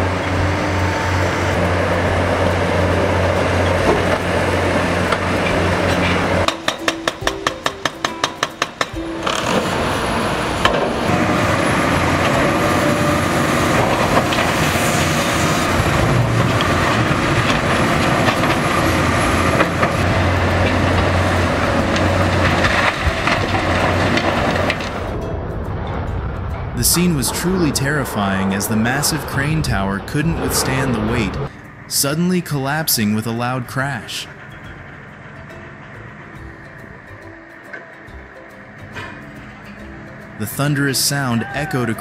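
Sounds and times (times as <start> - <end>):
diesel engine humming: 0.0 - 42.0
harsh machinery rumble: 0.0 - 42.0.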